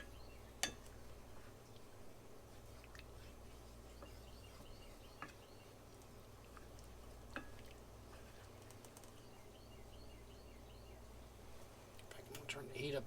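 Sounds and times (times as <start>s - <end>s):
sauce simmering in a skillet: 0.0s - 12.0s.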